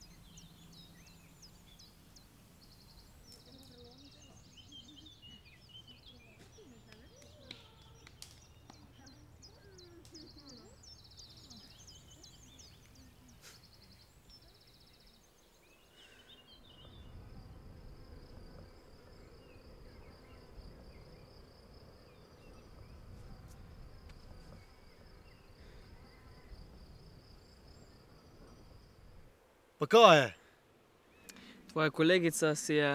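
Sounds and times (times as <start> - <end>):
high insect buzz: 0.0 - 29.5
birds chirping: 0.0 - 32.9.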